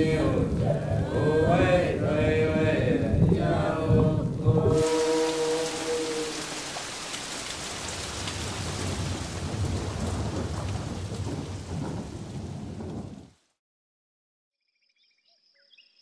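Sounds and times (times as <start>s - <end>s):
heavy rain: 0.0s - 13.5s
thunder rumbling: 0.1s - 13.4s.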